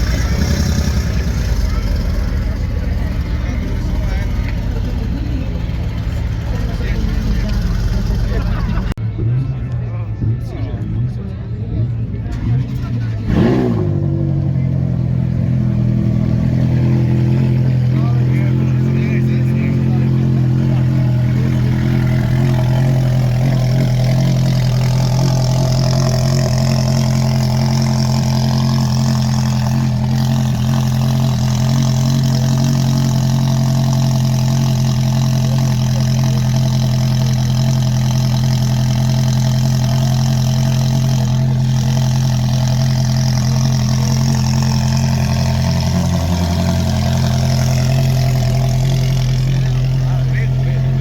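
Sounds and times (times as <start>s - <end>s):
car engine idling: 0.0s - 9.0s, 9.6s - 51.0s.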